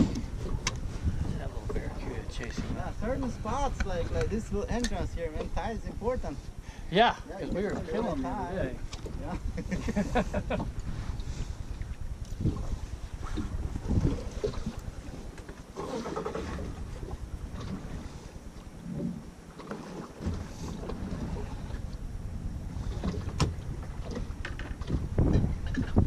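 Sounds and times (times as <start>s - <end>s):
waves slapping against hull: 0.0s - 6.7s, 7.5s - 26.0s
wind buffeting microphone: 0.0s - 19.6s, 20.2s - 26.0s.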